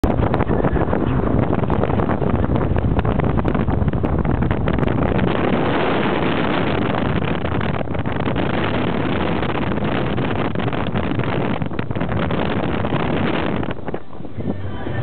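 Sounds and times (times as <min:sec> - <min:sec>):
wind and road noise in car: 0:00.0 - 0:15.0
wind buffeting microphone: 0:00.0 - 0:15.0.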